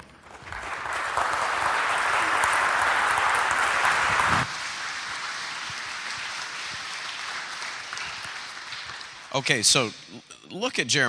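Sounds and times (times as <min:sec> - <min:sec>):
congregation applauding: 0:00.0 - 0:09.9.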